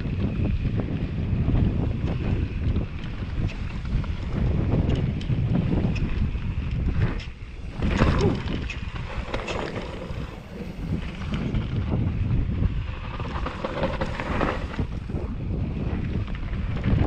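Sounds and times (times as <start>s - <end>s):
bike clicks and rattles: 0.0s - 17.0s
bike tyre noise: 0.0s - 17.0s
wind buffeting microphone: 0.0s - 17.0s.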